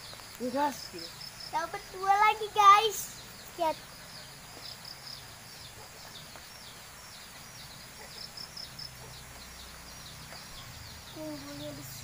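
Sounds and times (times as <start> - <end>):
small bird chirping: 0.0 - 12.0
steady outdoor hiss: 0.0 - 12.0.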